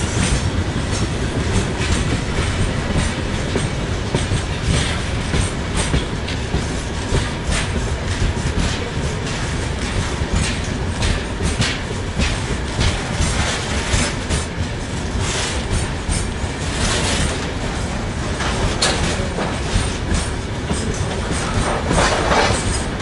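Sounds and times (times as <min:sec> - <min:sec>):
train wheels rumbling on rail: 0:00.0 - 0:23.0
wheels clattering over rail joints: 0:00.0 - 0:23.0.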